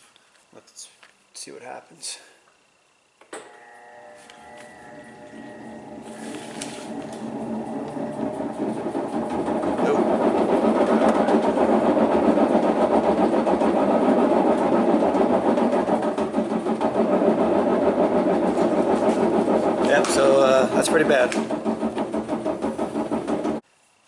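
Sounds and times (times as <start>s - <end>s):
washing machine spinning: 3.4s - 23.7s.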